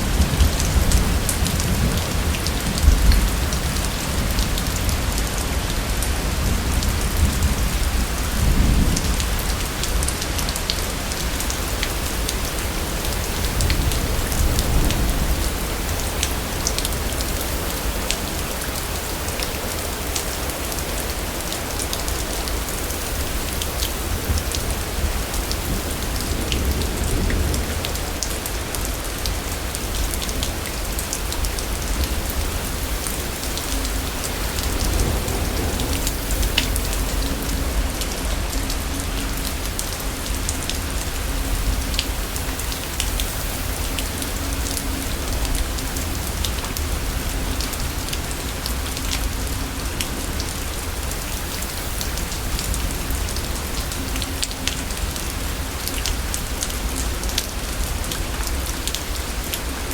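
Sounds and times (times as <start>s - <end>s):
thunderstorm rumble: 0.0s - 59.8s
rain falling: 0.0s - 59.9s.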